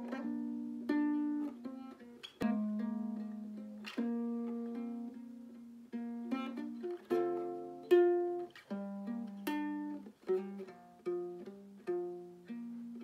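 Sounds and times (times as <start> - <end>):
fingerpicked acoustic guitar: 0.0 - 13.0.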